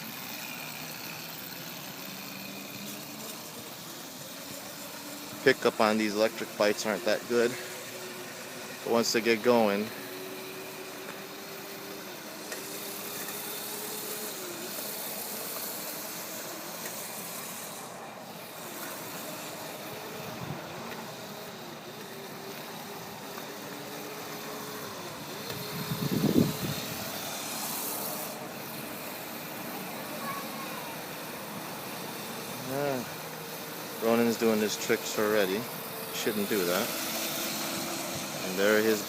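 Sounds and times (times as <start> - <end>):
electric dirt bike motor whining: 0.0 - 39.0.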